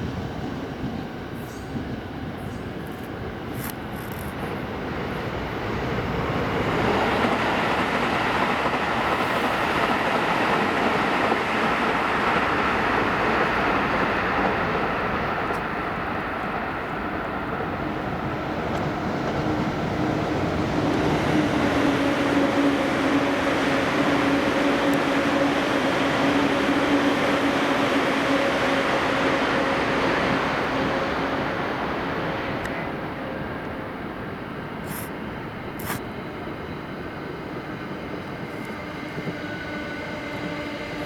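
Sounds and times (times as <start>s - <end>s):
electric train running on rails: 0.0s - 41.0s.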